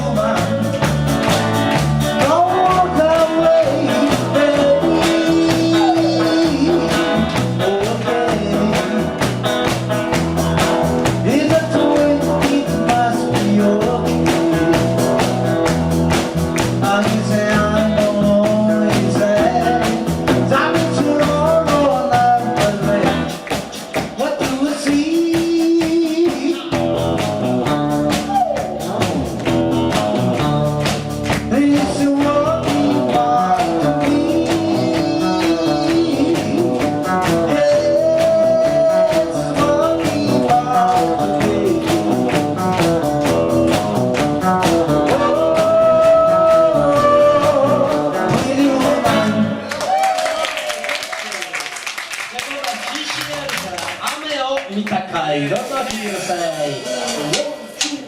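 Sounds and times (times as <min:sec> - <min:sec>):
man singing: 0:00.0 - 0:29.2, 0:30.3 - 0:43.8, 0:44.4 - 0:49.7
rock and roll band playing: 0:00.0 - 0:51.4, 0:52.2 - 0:58.0.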